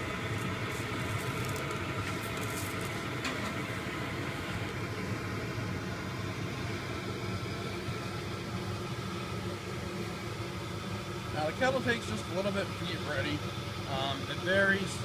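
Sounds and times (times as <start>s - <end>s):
propane burner hum: 0.0s - 15.0s.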